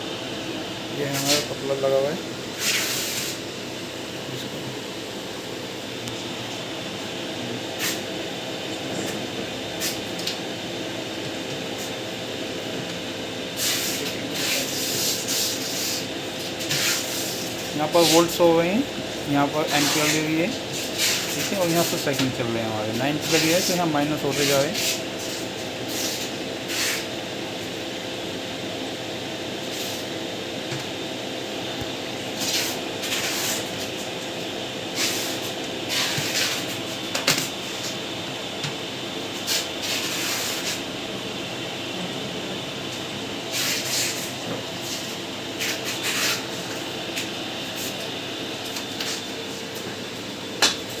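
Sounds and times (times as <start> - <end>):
fan noise: 0.0 - 51.0
welding machine electrical hum: 0.0 - 51.0.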